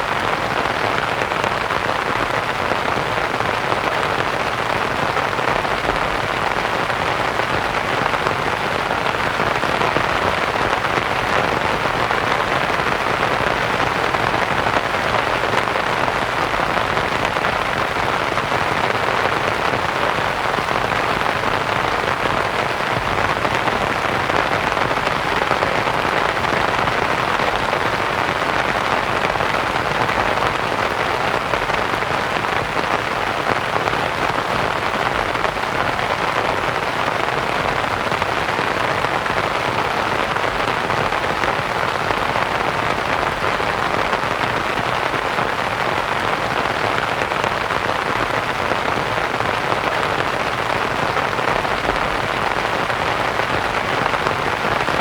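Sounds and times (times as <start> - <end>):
rain pattering on a tent: 0.0 - 55.0.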